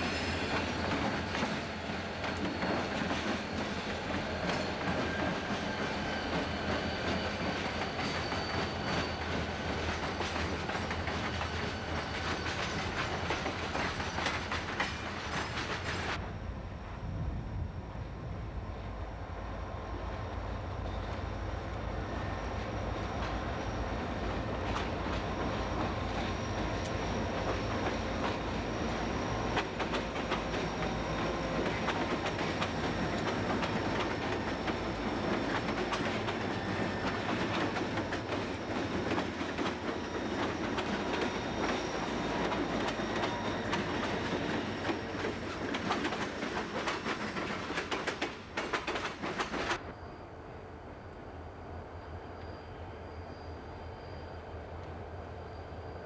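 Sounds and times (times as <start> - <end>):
hopper cars clickety-clack on rail joints: 0.0 - 16.3, 19.9 - 50.0
diesel locomotives passing: 0.0 - 56.0
distant running locomotive: 0.0 - 56.0.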